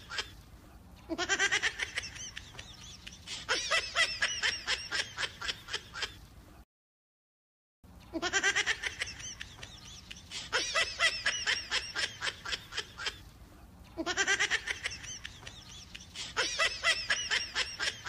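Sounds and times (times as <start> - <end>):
high-pitched giggling laughter: 0.0 - 0.4, 1.0 - 6.3, 8.1 - 13.3, 13.9 - 18.0.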